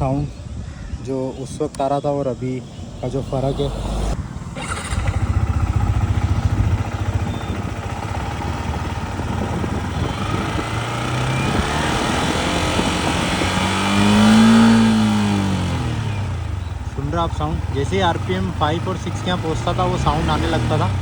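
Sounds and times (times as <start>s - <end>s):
motorcycle engine revving: 2.6s - 21.0s.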